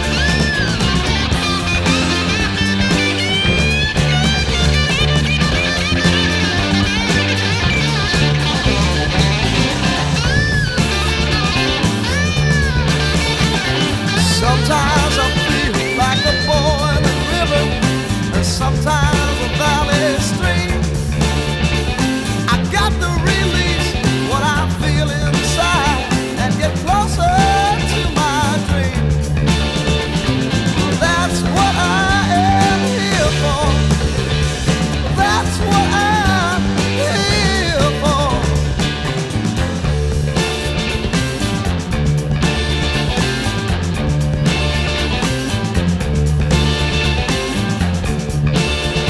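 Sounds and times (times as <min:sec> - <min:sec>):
electric bass line: 0:00.0 - 0:49.0
lead line with bent notes: 0:00.0 - 0:49.0.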